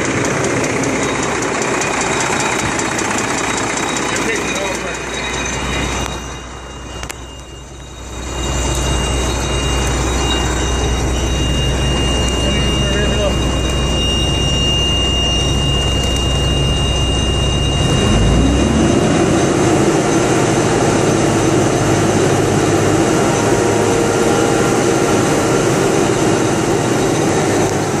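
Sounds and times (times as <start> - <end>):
diesel engine revving: 0.0 - 28.0.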